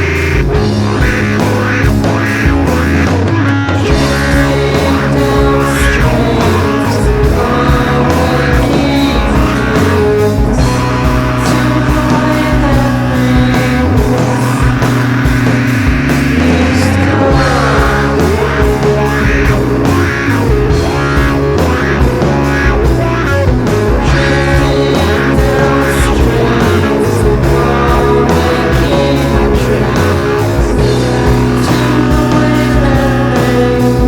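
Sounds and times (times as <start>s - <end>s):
bass guitar: 0.0s - 34.0s
distorted electric guitars: 0.0s - 34.0s
rock drums: 0.0s - 34.0s.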